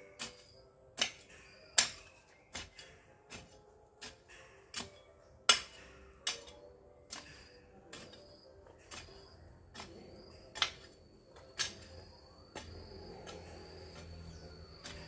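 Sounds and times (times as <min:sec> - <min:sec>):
hoe chopping into soil: 0:00.1 - 0:15.0.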